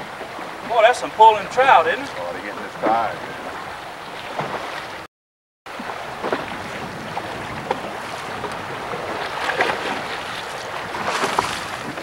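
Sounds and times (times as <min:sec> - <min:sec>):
water noise: 0:00.0 - 0:05.1, 0:05.7 - 0:12.0
wind: 0:00.0 - 0:05.1, 0:05.7 - 0:12.0.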